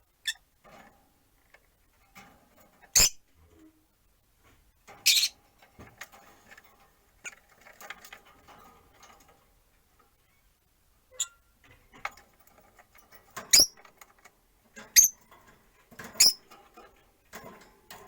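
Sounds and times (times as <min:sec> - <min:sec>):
soft ticks and scratches: 0:00.6 - 0:10.5, 0:11.6 - 0:18.0.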